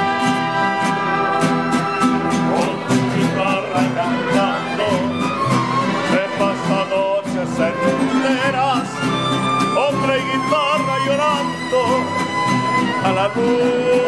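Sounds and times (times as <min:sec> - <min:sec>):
violins playing melody: 0:00.0 - 0:07.0, 0:07.6 - 0:13.8
strummed guitar chords: 0:00.0 - 0:14.0.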